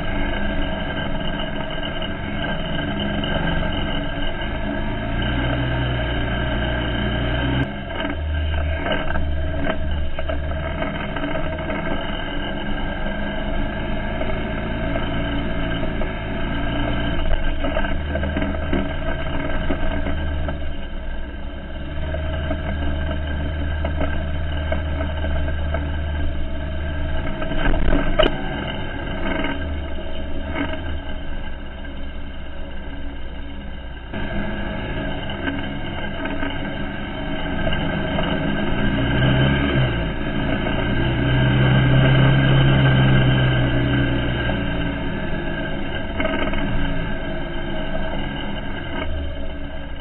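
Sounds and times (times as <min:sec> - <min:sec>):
quad engine running: 0:00.0 - 0:50.0.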